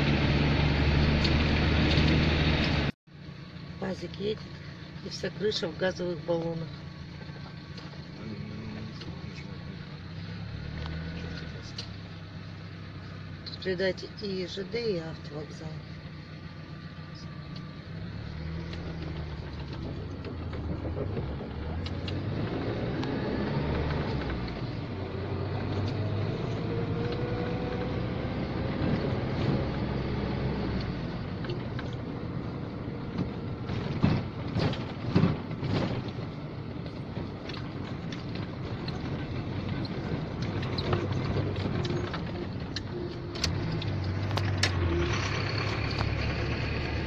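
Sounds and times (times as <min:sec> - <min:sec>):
van engine and road noise: 0:00.0 - 0:47.0.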